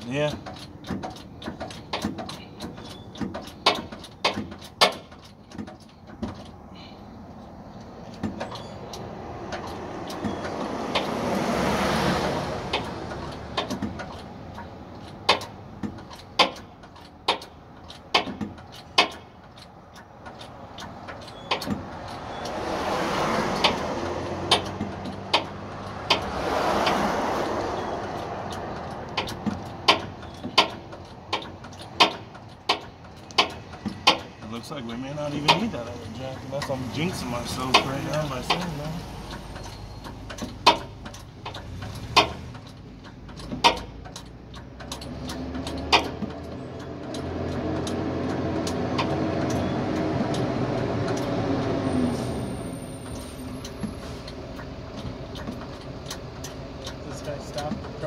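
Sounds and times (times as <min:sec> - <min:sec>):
jack clicking: 0:00.0 - 0:58.0
road traffic passing: 0:00.0 - 0:58.0.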